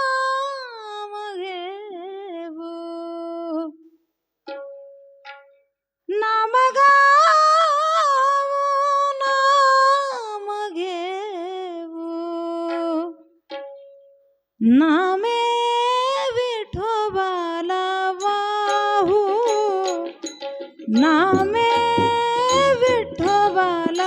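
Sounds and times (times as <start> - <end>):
woman singing wordless melody: 0.0 - 3.8, 6.1 - 13.3, 14.6 - 24.0.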